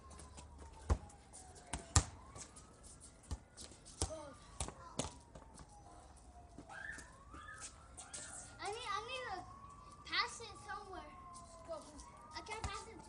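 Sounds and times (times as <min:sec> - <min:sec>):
faint siren wailing: 0:00.0 - 0:13.0.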